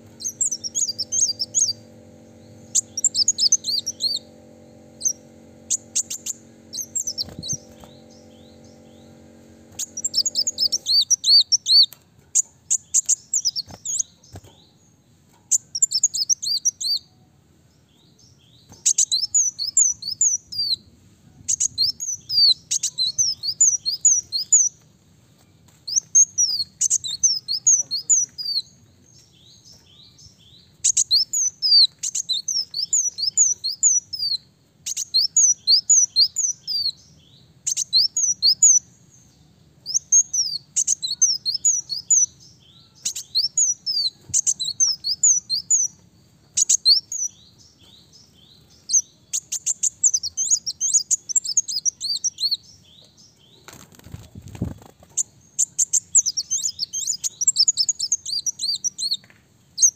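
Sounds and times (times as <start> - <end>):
sunbird singing rapid chirps: 0.0 - 20.9, 21.5 - 24.8, 25.8 - 59.9.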